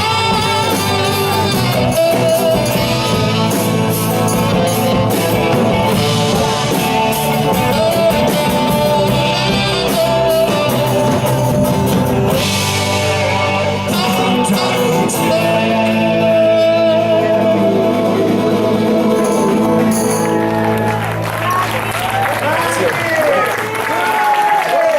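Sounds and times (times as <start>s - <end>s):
person singing: 0.0s - 20.8s
live band playing: 0.0s - 24.6s.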